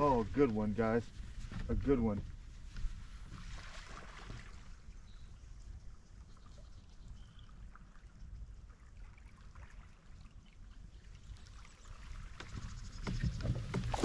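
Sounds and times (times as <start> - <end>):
water trickling and sloshing: 0.0 - 14.0.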